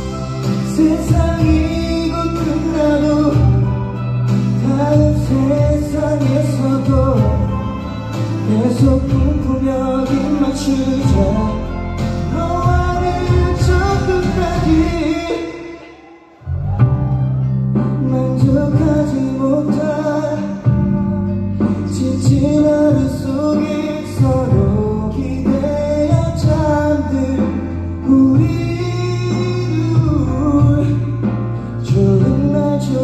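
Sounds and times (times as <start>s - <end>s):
man singing into microphone: 0.0s - 17.0s, 17.8s - 33.0s
instrumental accompaniment: 0.0s - 33.0s.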